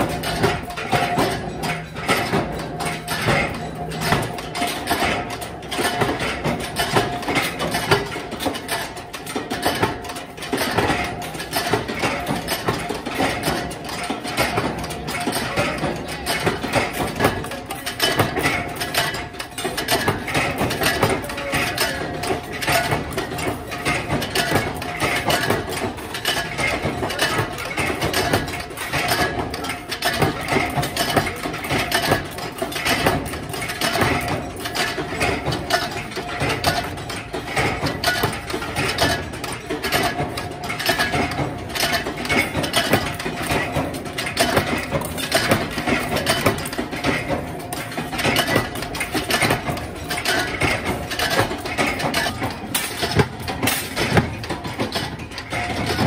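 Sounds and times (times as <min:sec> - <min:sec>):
machinery clattering: 0:00.0 - 0:56.0.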